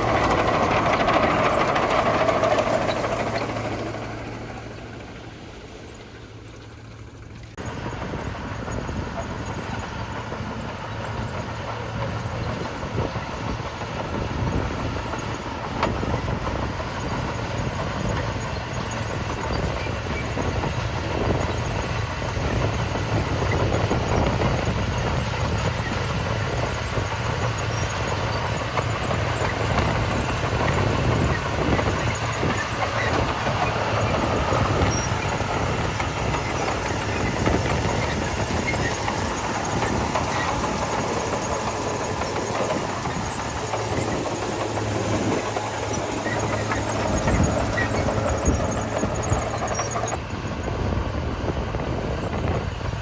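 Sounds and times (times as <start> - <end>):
heavy diesel machinery drone: 0.0 - 53.0.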